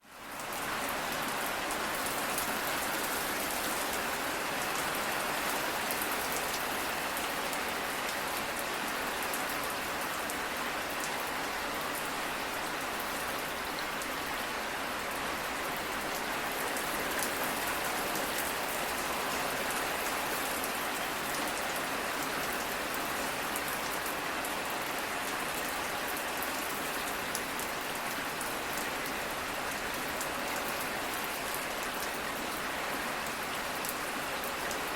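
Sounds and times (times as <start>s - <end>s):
rain pattering: 0.2s - 34.9s.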